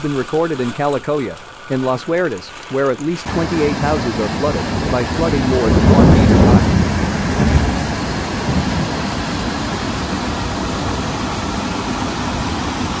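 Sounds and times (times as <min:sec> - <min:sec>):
floodwater rushing down river: 0:00.0 - 0:13.0.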